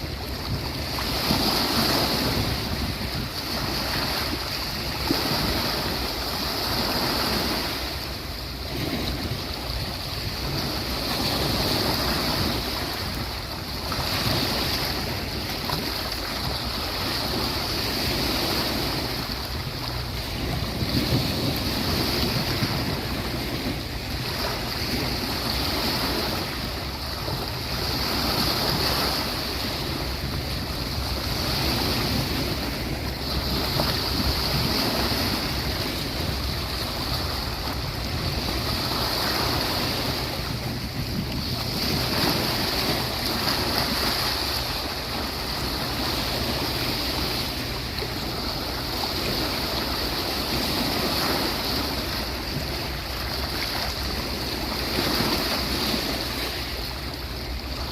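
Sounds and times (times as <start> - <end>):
sea waves washing onto beach: 0.0 - 57.9
wind: 0.0 - 57.9.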